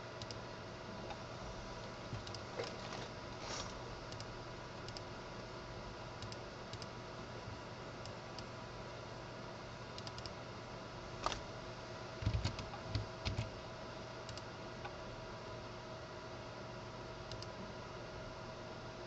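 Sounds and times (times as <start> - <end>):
faint hiss and hum: 0.0 - 19.0.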